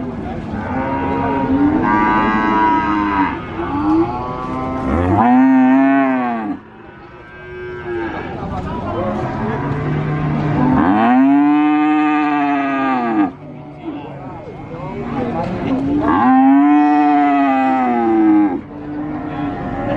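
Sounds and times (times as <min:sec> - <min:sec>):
cattle mooing: 0:00.6 - 0:08.4, 0:09.0 - 0:19.9.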